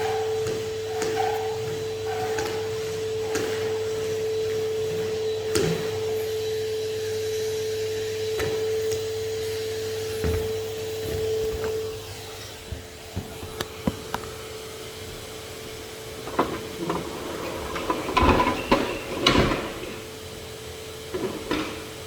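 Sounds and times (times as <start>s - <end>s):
vacuum cleaner humming: 0.0s - 22.0s.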